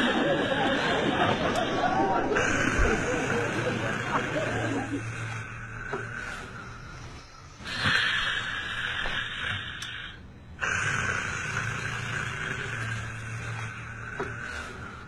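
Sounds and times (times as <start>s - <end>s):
person snoring loudly: 0.0s - 15.0s.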